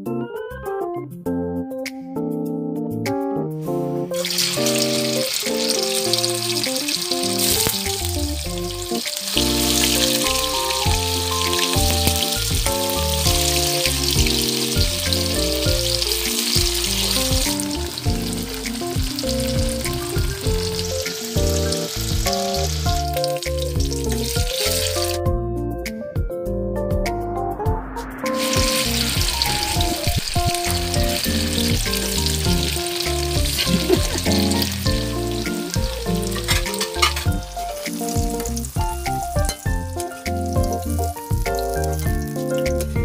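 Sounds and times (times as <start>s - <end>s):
keyboard music: 0.0s - 43.0s
tofu sizzling in oil: 4.2s - 25.2s, 28.4s - 42.4s.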